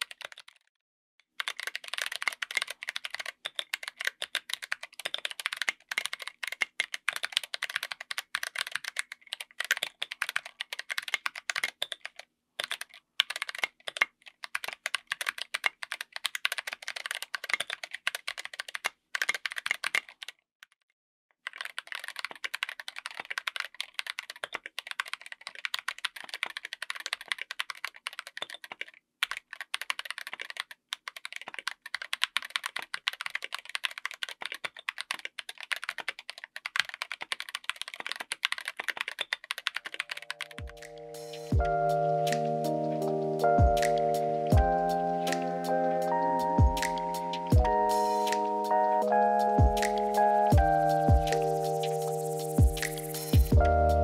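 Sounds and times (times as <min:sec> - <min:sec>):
fast typing on mechanical keyboard: 0:00.0 - 0:00.7, 0:01.4 - 0:20.4, 0:21.4 - 0:54.0.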